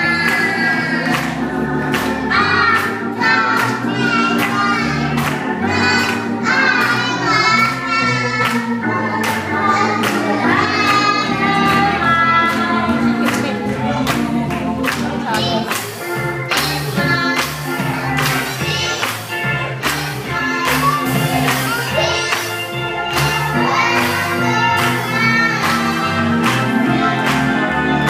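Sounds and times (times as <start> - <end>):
choir singing gospel song: 0.0 - 28.0
instrumental accompaniment with beat: 0.0 - 28.0.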